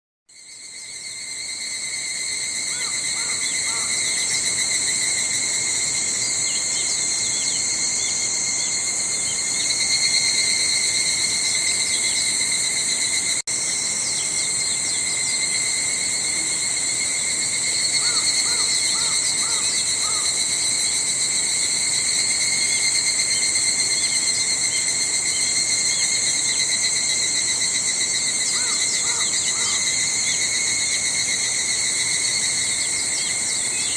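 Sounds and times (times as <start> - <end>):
cicadas buzzing drone: 0.3 - 33.9
rippling cicada calls: 0.3 - 33.9.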